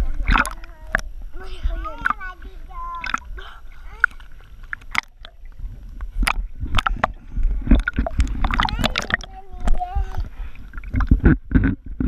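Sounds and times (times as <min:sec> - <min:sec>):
low churning water rumble: 0:00.0 - 0:12.0
pool water splashing: 0:00.0 - 0:12.0.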